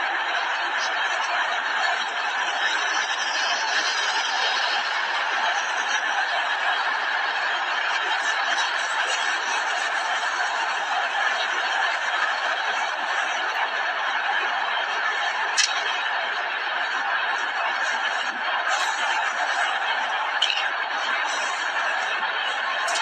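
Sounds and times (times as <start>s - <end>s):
snickering and chuckling laughter: 0.0s - 23.0s.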